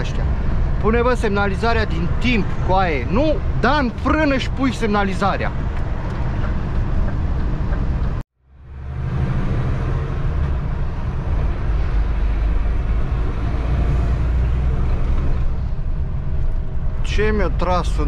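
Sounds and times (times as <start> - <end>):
truck engine and road noise: 0.0 - 18.0.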